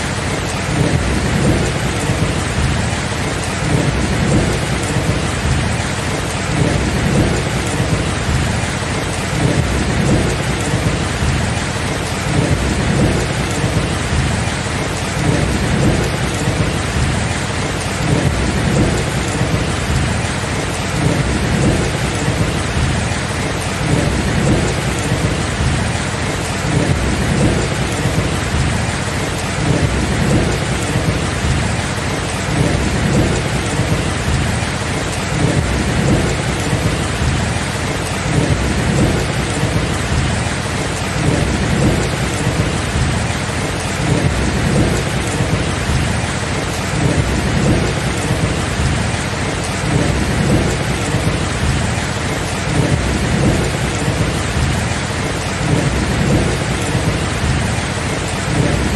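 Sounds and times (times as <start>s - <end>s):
heavy rain: 0.0s - 58.9s
low thunder rumbling: 0.0s - 58.9s.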